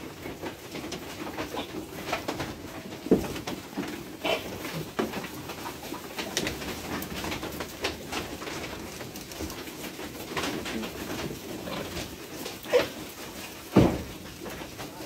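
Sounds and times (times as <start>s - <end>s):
goats crunching straw: 0.0s - 15.0s
hooves knocking against trough: 0.0s - 15.0s.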